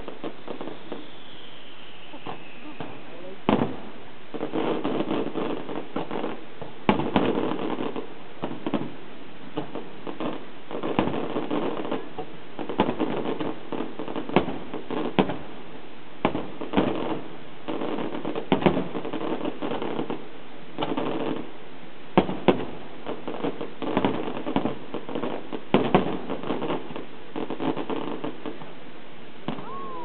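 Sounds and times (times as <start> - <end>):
fireworks bursting bangs: 0.0 - 28.8, 29.4 - 30.0
fireworks crackling: 0.0 - 30.0.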